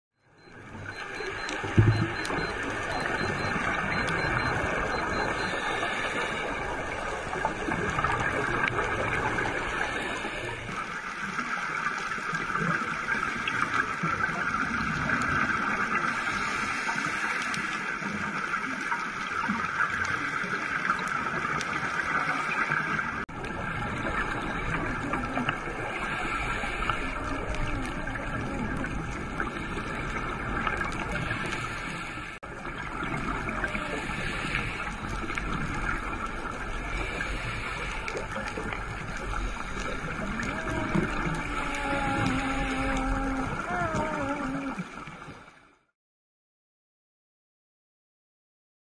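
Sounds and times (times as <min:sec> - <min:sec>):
underwater rush and hiss: 0:00.8 - 0:45.7.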